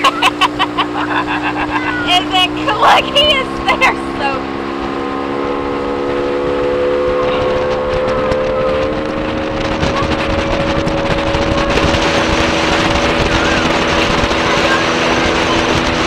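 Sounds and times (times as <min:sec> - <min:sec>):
motorboat engine running: 0:00.0 - 0:16.0
wind and water rushing: 0:00.0 - 0:16.0.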